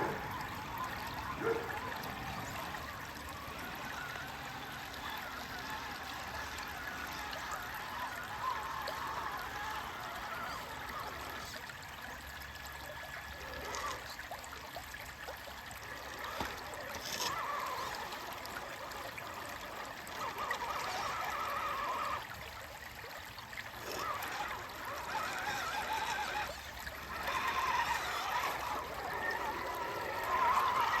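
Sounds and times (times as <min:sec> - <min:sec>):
creek water babbling: 0:00.0 - 0:31.0
water splashing: 0:00.0 - 0:31.0.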